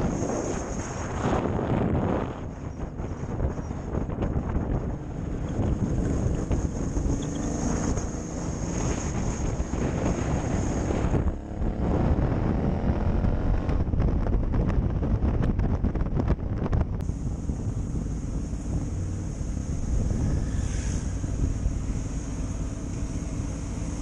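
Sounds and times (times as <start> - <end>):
wind buffeting on microphone: 0.0 - 24.0
motorcycle engine: 3.3 - 24.0.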